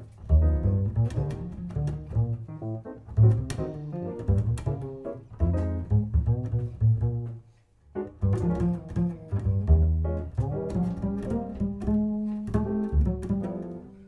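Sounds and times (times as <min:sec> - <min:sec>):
double bass plucked notes: 0:00.0 - 0:14.0.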